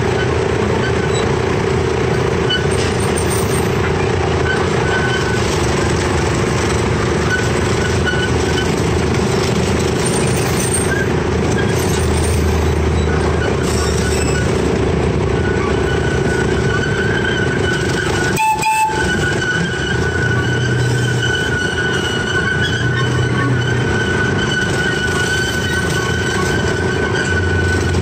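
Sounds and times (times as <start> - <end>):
miniature train engine drone: 0.0 - 28.0
ride rumbling on track: 0.0 - 28.0.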